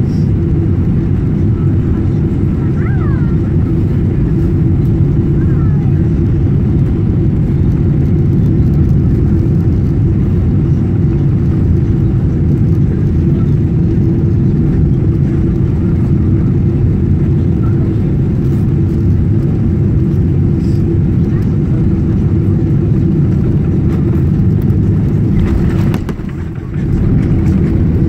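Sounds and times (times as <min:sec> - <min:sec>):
airliner engine and airflow rumble: 0:00.0 - 0:28.0.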